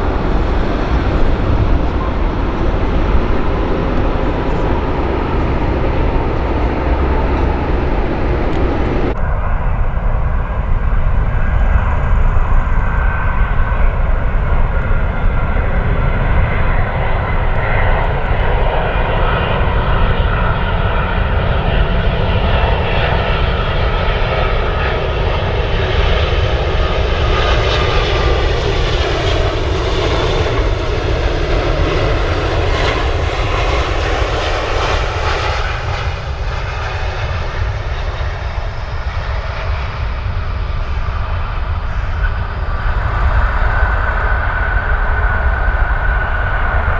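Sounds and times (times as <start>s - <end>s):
jet engines running loud: 0.0s - 46.9s.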